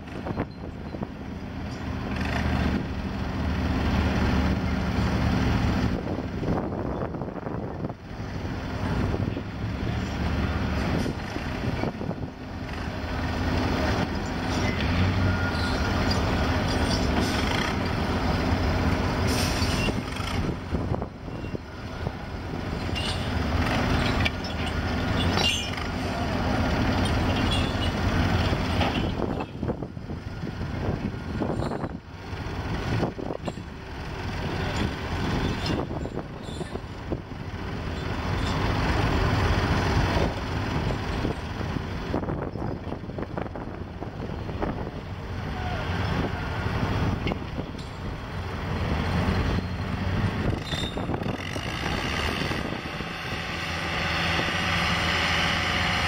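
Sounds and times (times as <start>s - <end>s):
forklift engine running: 0.0s - 56.0s.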